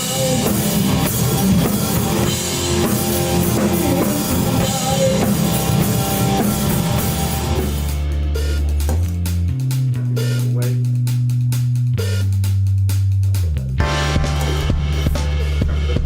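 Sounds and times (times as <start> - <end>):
drum kit beating: 0.0 - 16.0
rock band playing: 0.0 - 16.0.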